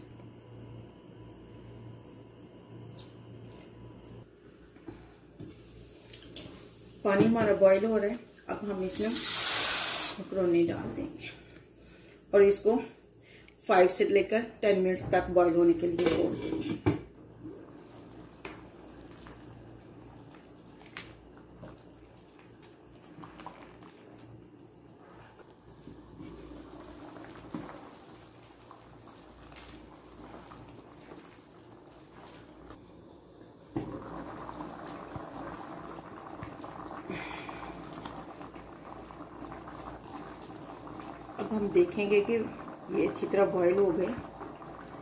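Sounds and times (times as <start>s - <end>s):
water boiling in a pot: 5.3s - 14.4s, 15.4s - 45.0s.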